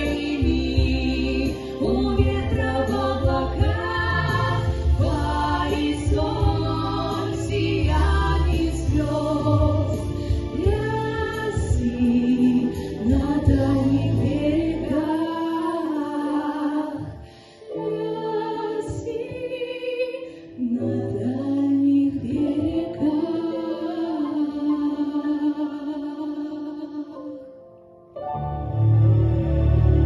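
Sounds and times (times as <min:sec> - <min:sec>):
woman singing: 0:00.0 - 0:27.5.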